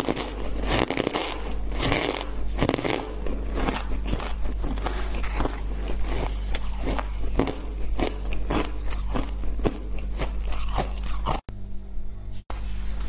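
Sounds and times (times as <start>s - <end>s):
ice being crunched and chewed: 0.0s - 11.5s.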